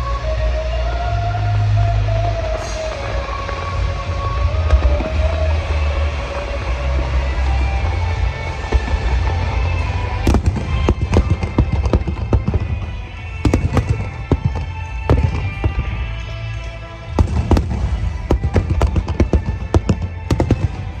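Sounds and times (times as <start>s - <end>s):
music: 0.0s - 21.0s
low rumble: 1.0s - 21.0s
fireworks cracking and banging: 2.5s - 21.0s.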